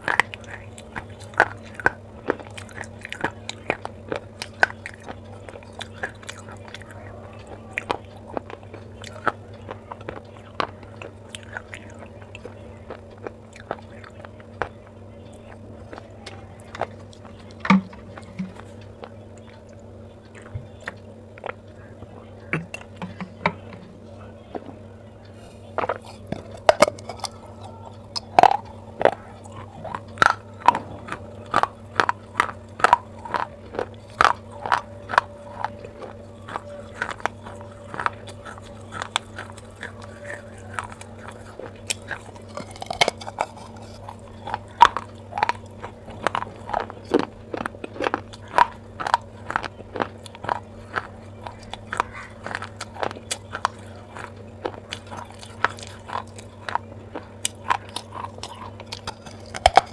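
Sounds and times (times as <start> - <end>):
crunching clay pot: 0.0 - 59.9
faint low hum: 0.0 - 59.9.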